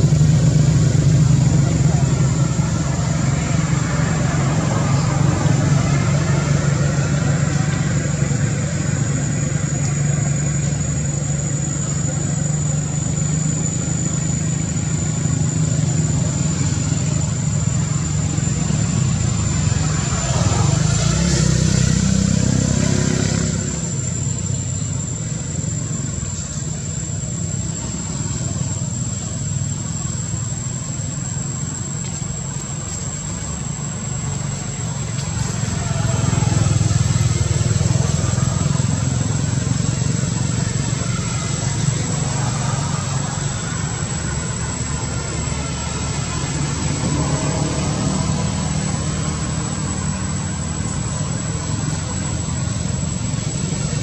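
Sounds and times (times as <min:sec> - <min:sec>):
high-pitched whine: 0:00.0 - 0:54.0
low engine rumble: 0:00.0 - 0:54.0.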